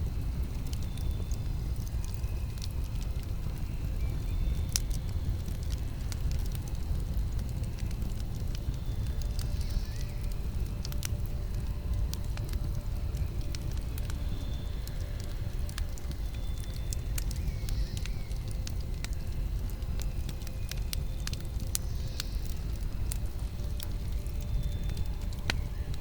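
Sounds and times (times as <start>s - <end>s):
flames rumbling: 0.0s - 26.0s
wood crackling and popping: 0.0s - 26.0s.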